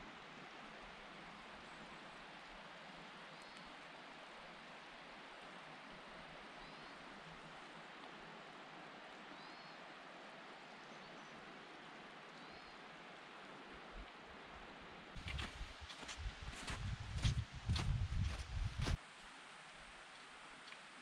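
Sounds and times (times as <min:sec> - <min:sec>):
faint steady forest hiss: 0:00.0 - 0:21.0.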